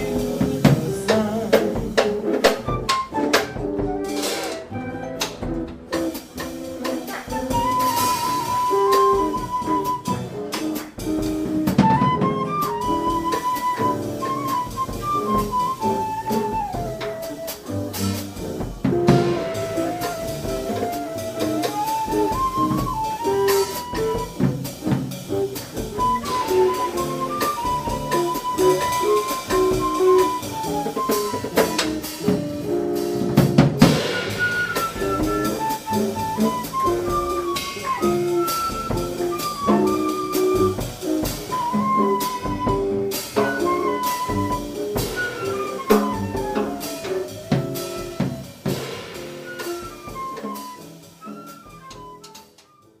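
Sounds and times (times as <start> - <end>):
jazz group playing: 0.0 - 53.0.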